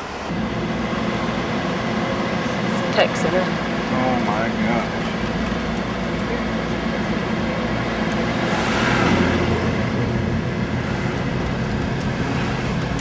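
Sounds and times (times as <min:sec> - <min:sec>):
car engine and road noise: 0:00.0 - 0:13.0
rushing noise: 0:00.0 - 0:13.0.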